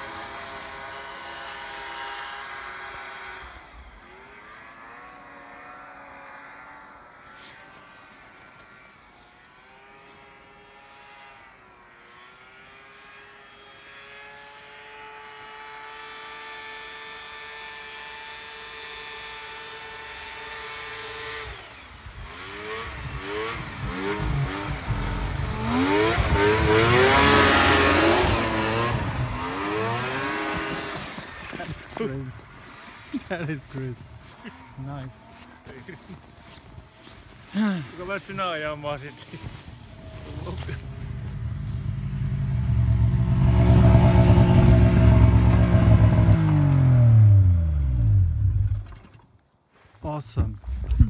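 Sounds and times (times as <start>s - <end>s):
snowmobile engine passing: 0.0s - 49.1s.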